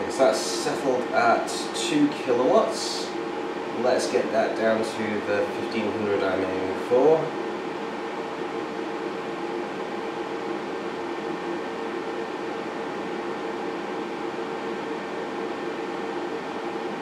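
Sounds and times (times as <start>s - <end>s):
blower motor hum: 0.0s - 17.0s
fan heater air rushing: 0.0s - 17.0s.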